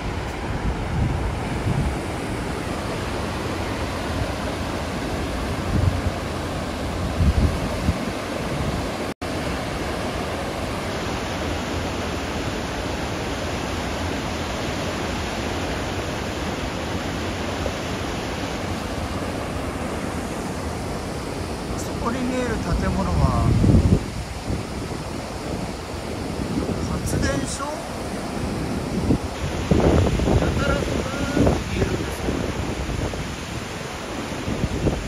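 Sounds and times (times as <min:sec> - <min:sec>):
wind buffeting microphone: 0:00.0 - 0:10.9, 0:15.8 - 0:35.0
flowing water rushing: 0:00.0 - 0:35.0.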